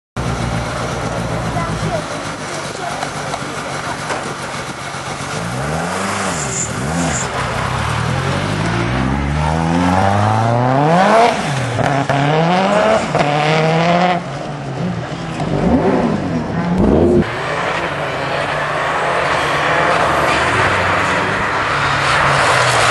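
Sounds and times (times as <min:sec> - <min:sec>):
rally car engine revving: 0:00.2 - 0:22.9.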